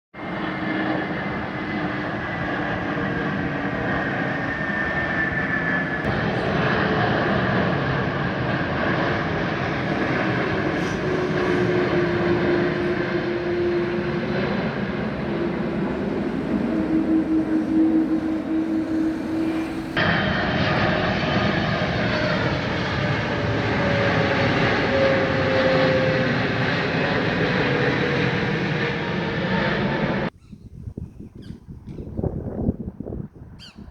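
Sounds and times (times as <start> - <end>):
jet engine whine: 0.2 - 30.4
jet airliner engine roar: 0.2 - 31.0.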